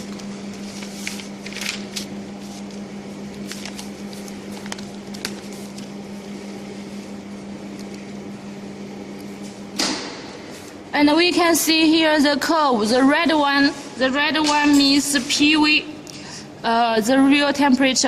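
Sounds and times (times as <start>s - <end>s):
furnace humming: 0.0s - 18.0s.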